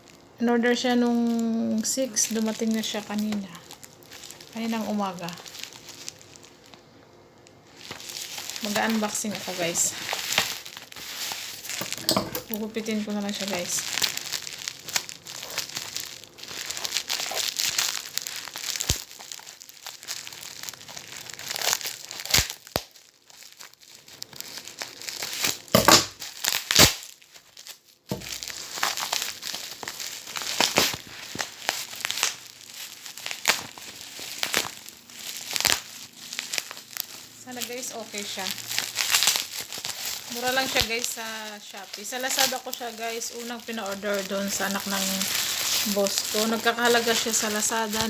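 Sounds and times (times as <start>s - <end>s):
packaging crinkling and rustling: 0.0s - 48.0s.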